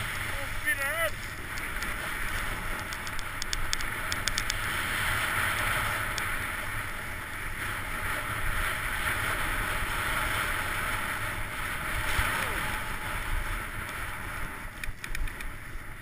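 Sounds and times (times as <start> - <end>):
sled scraping over snow: 0.0 - 16.0.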